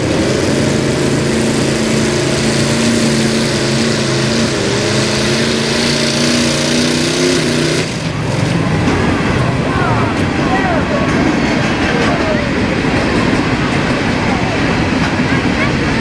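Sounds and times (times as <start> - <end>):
pulling truck engine running: 0.0 - 16.0.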